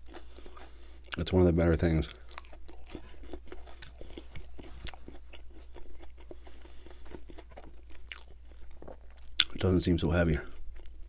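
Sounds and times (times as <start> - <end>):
person chewing crispy food: 0.0 - 11.0.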